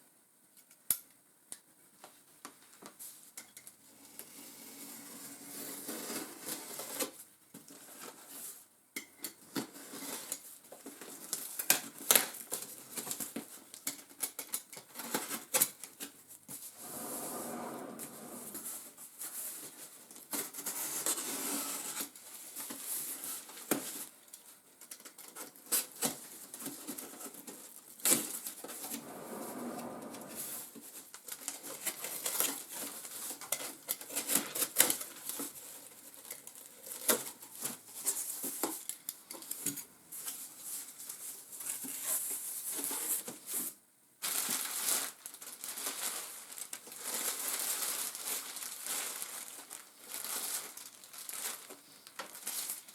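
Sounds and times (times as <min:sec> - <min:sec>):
packaging rustling and scraping: 0:09.5 - 0:52.9.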